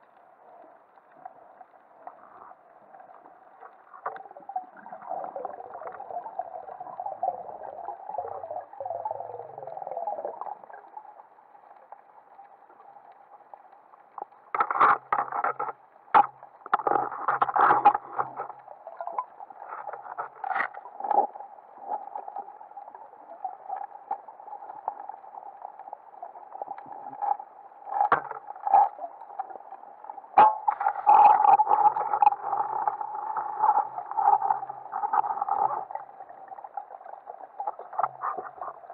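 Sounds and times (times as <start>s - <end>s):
underwater rushing and bubbling: 0.0s - 38.9s.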